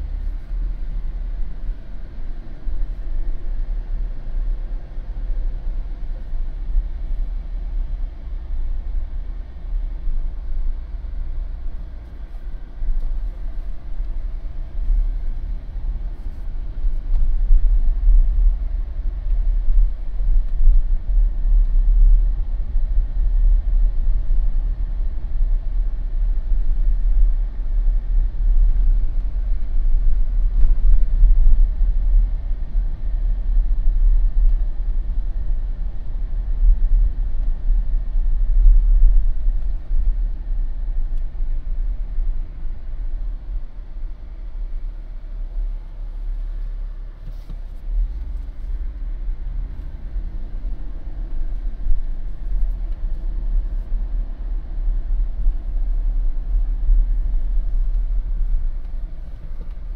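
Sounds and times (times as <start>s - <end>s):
car driving slowly: 0.0s - 59.9s.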